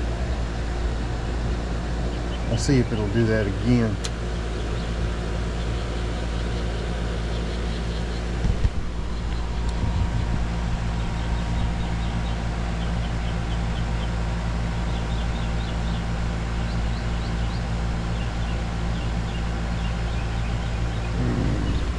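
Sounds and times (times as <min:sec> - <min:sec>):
compressor humming: 0:00.0 - 0:21.9.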